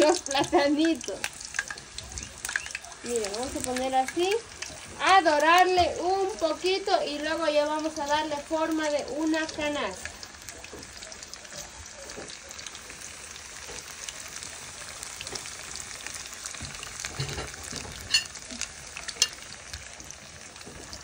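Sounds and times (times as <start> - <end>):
plantain frying in hot oil: 0.0 - 21.0.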